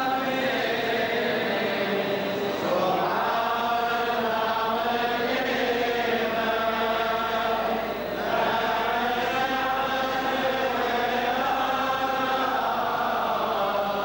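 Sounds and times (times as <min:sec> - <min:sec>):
voices chanting a hymn: 0:00.0 - 0:14.0.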